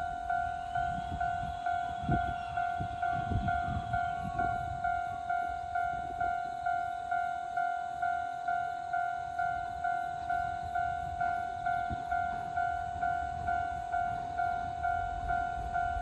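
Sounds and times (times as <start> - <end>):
railroad crossing warning bell: 0.0 - 16.0.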